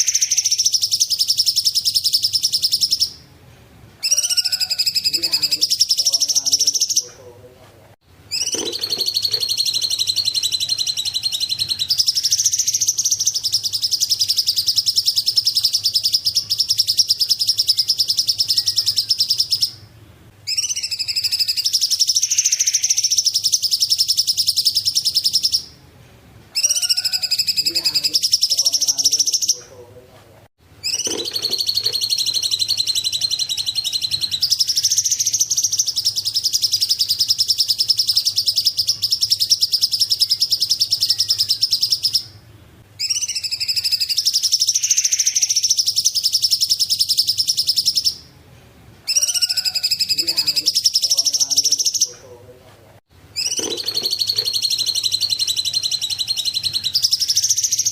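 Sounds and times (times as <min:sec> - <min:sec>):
bird singing high trills: 0:00.0 - 0:03.3, 0:04.0 - 0:07.1, 0:08.3 - 0:19.9, 0:20.5 - 0:25.8, 0:26.5 - 0:29.6, 0:30.8 - 0:42.4, 0:43.0 - 0:48.3, 0:49.1 - 0:52.2, 0:53.4 - 0:57.9.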